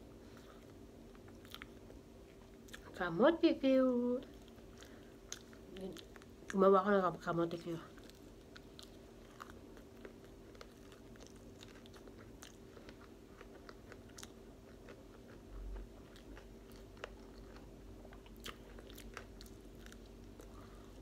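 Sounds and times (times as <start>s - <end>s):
steady low hum: 0.0s - 21.0s
wet chewing and mouth smacks: 0.3s - 2.9s, 4.3s - 6.6s, 7.9s - 21.0s.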